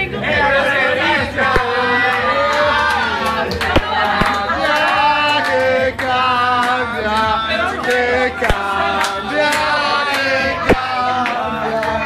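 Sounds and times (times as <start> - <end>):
background music with bass: 0.0 - 12.0
men singing loudly: 0.0 - 12.0.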